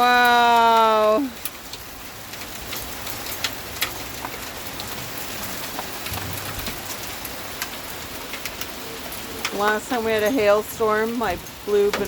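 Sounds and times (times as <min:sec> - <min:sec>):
hailstones ticking: 0:00.0 - 0:12.0
heavy rain hiss: 0:00.0 - 0:12.0.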